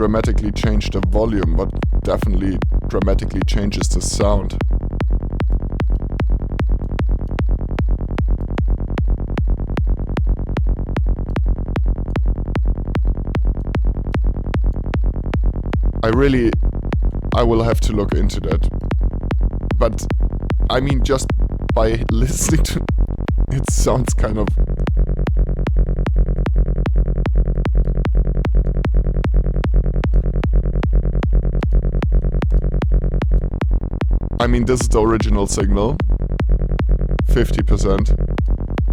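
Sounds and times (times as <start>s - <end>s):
kick drum: 0.0s - 3.2s, 3.8s - 38.9s
buzzy synth bassline: 0.0s - 38.9s.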